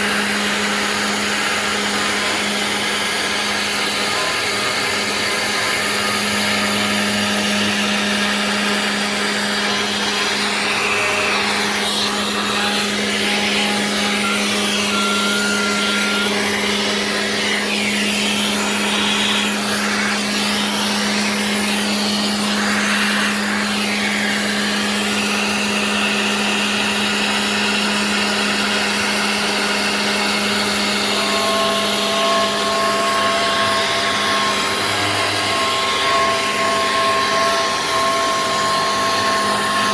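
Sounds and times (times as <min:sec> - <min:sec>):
router bit cutting: 0:00.0 - 0:39.9
router spindle humming: 0:00.0 - 0:39.9.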